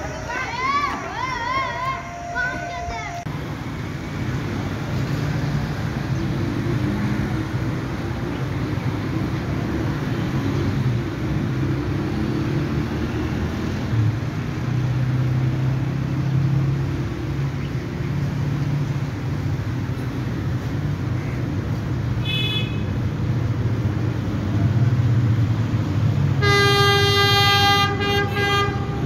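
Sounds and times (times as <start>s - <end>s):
diesel locomotive engine droning: 0.0s - 29.0s.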